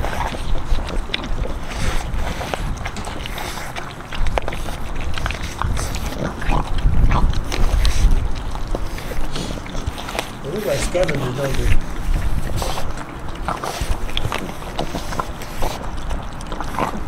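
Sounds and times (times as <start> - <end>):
puppies wet chewing: 0.0 - 17.0.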